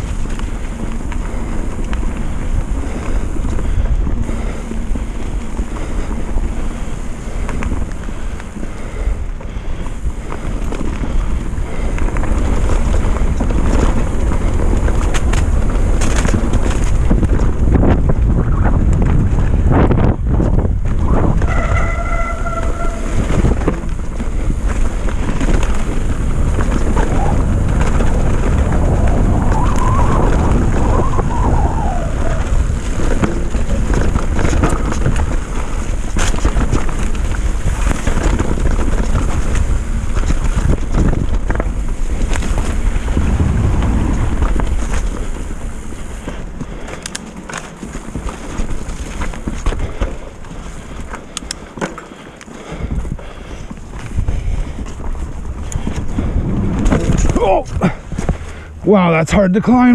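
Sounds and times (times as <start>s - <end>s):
bike knocks and rattles: 0.0s - 58.7s
wind on microphone: 0.0s - 58.9s
bike tyre rumble: 0.0s - 59.9s.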